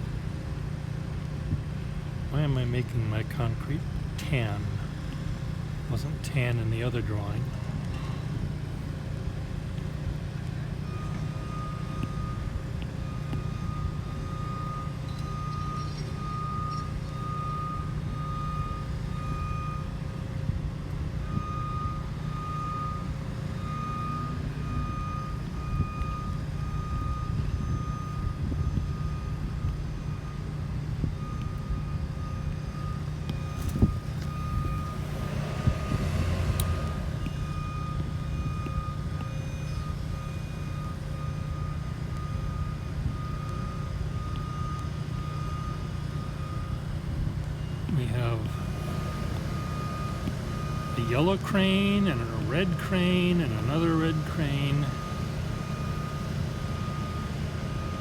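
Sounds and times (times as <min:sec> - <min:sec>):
reversing alarm beeping: 0:00.0 - 0:58.0.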